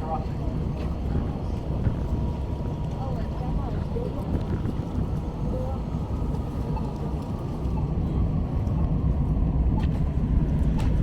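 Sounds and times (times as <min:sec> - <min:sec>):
road vehicle engine rumbling: 0:00.0 - 0:11.0.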